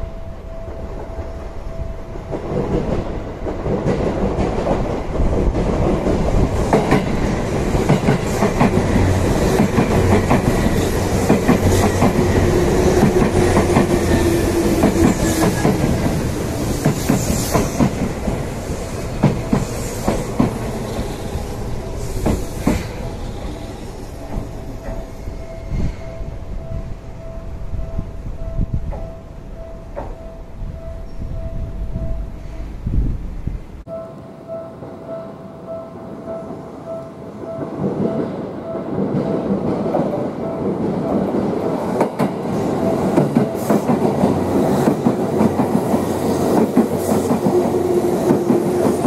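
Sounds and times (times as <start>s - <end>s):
electric train passing: 0.0s - 49.0s.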